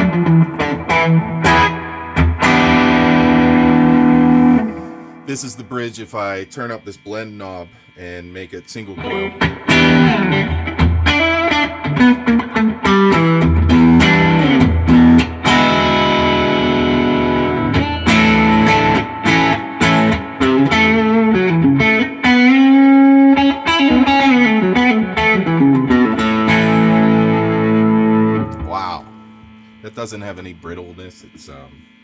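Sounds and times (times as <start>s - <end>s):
electric guitar playing: 0.0s - 32.0s.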